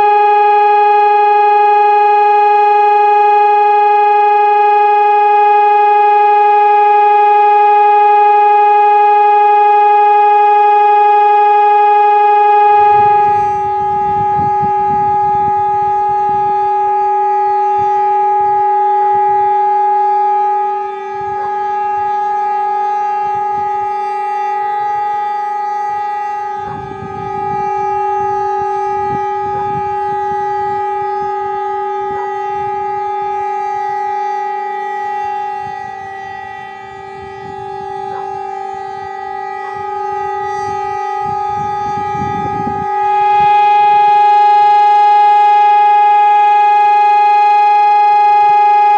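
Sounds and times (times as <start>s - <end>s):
electronic siren steady tone: 0.0s - 48.9s.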